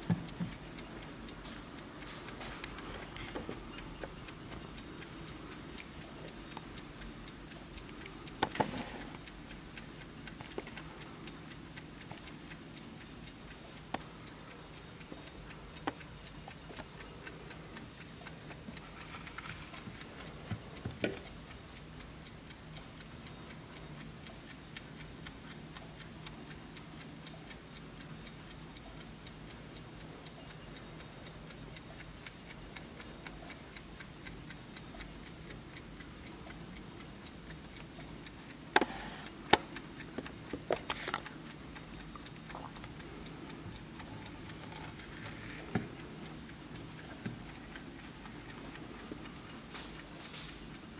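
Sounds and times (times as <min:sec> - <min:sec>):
mantel clock ticking: 0:00.0 - 0:50.9.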